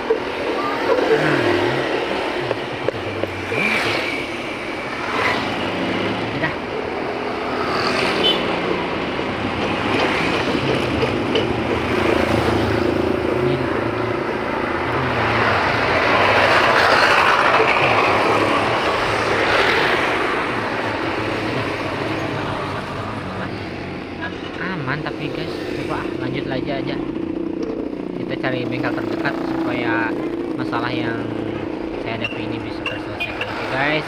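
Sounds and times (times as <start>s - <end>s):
motorcycle engine hum: 0.0s - 33.6s
wind and road noise: 0.0s - 34.0s.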